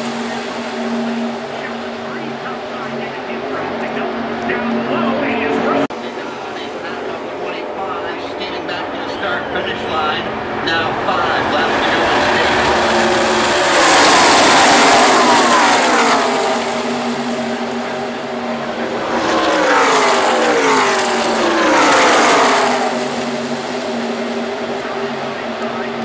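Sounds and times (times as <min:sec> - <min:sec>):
race trucks passing at speed: 0:00.0 - 0:26.0.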